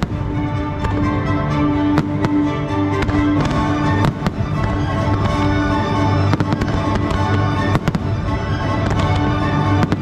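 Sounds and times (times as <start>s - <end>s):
loud show music: 0.0s - 10.0s
fireworks bursting: 1.8s - 10.0s.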